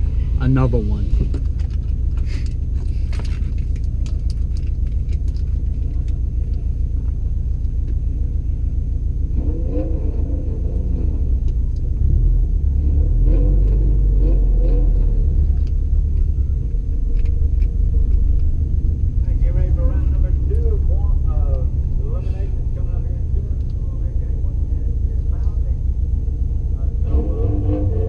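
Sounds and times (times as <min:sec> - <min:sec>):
car engine idling: 0:00.0 - 0:13.0, 0:13.7 - 0:28.0.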